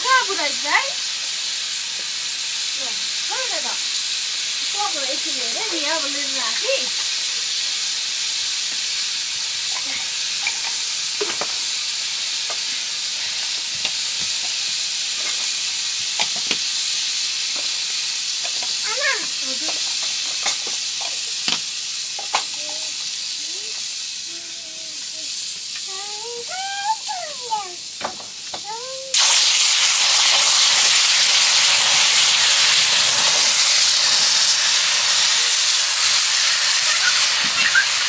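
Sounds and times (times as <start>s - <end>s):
curry sizzling in a pot: 0.0s - 38.0s.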